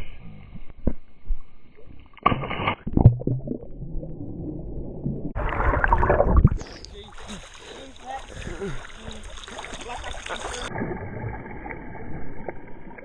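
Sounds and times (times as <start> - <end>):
muffled underwater sloshing: 1.5 - 13.0
water splashing: 1.8 - 13.0.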